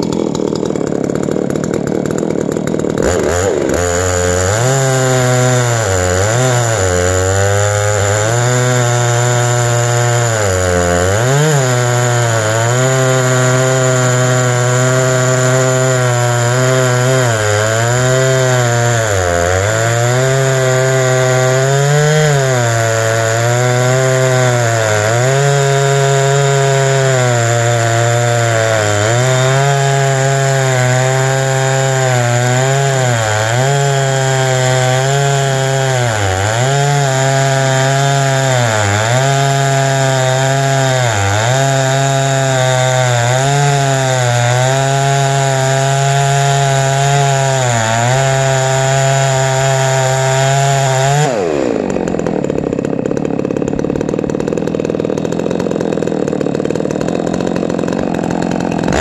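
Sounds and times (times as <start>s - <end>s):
chainsaw cutting a log: 0.0s - 59.0s.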